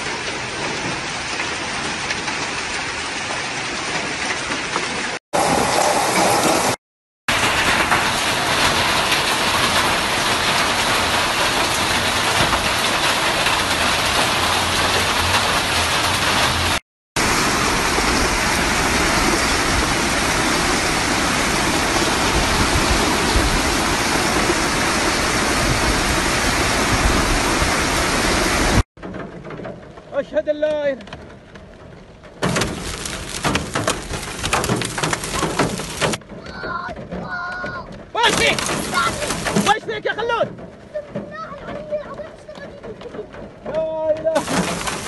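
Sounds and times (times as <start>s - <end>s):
heavy rain pouring: 0.0s - 45.0s.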